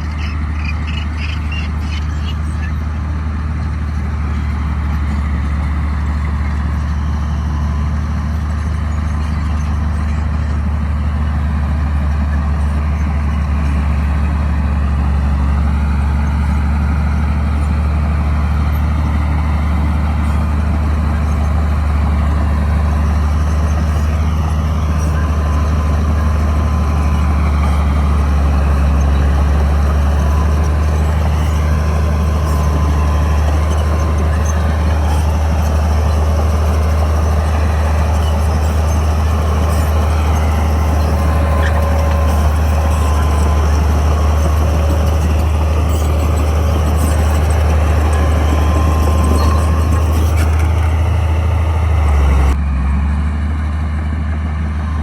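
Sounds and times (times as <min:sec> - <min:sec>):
bulldozer diesel engine rumbling: 0:00.0 - 0:55.0.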